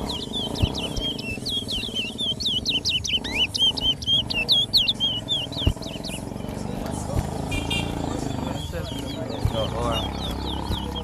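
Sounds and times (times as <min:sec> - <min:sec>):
finch singing slurred whistles: 0:00.0 - 0:11.0.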